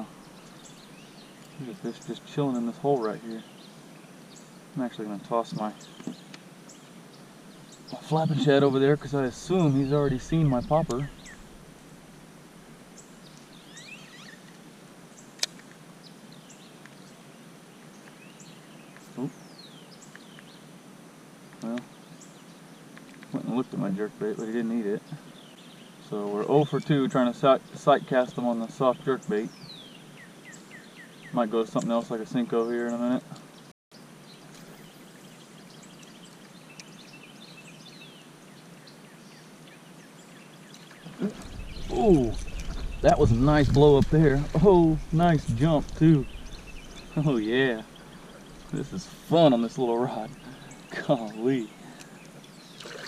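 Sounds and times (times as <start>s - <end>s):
small birds chirping: 0.0s - 12.2s, 12.8s - 20.8s, 21.5s - 53.0s
background hiss: 0.0s - 53.0s.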